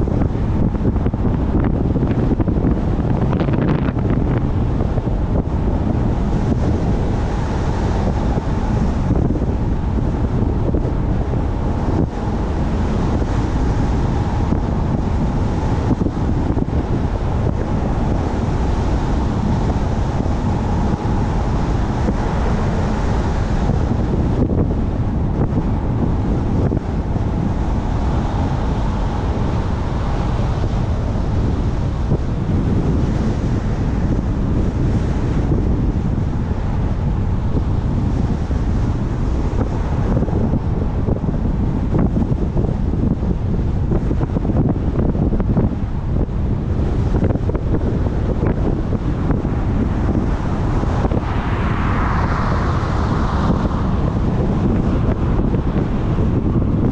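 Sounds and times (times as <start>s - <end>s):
car driving: 0.0s - 56.9s
wind and road noise: 0.0s - 56.9s.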